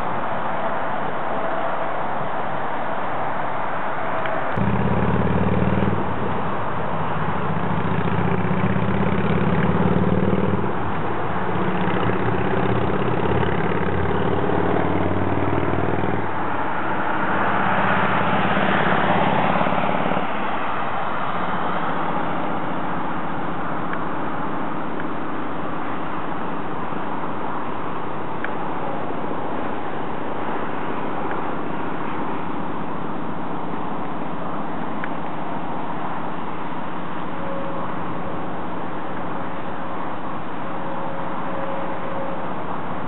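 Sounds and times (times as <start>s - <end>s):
road traffic hiss: 0.0s - 43.0s
vehicle passing: 0.0s - 43.0s
vehicle engine running: 4.6s - 43.0s.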